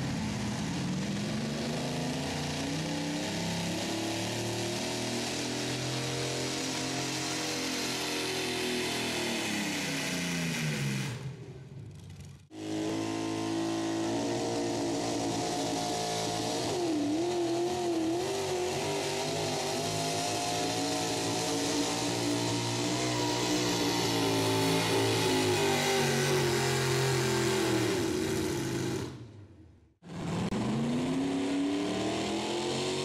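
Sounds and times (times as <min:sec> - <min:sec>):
truck engines revving high: 0:00.0 - 0:29.4, 0:30.0 - 0:33.0.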